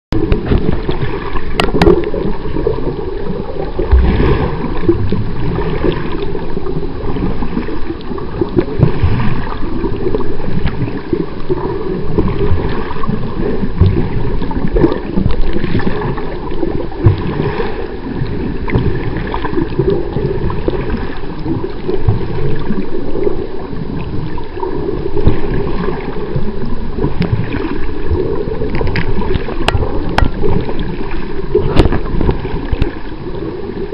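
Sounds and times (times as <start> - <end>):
muffled underwater rushing and gurgling: 0.1 - 33.9.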